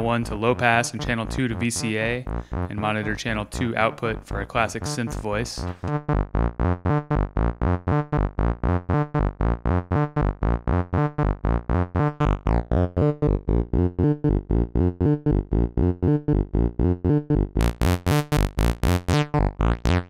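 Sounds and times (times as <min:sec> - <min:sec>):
synthesizer plucked notes sequence: 0:00.0 - 0:20.0
high falling synth sweep: 0:00.2 - 0:20.0.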